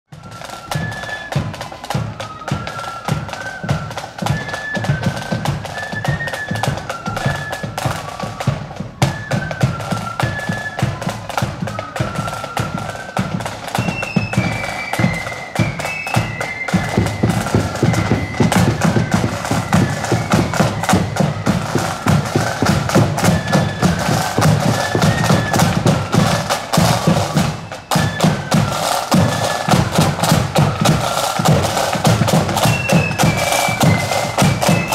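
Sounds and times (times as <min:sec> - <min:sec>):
flutes playing in unison: 0:00.1 - 0:34.9
snare and bass drums: 0:00.1 - 0:34.9.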